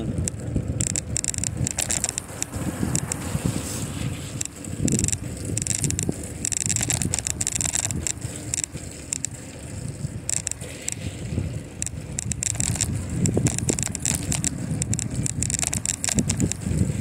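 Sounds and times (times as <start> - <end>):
bicycle tyre road noise: 0.0 - 17.0
bike rattling clicks: 0.0 - 17.0
wind on microphone: 0.0 - 17.0.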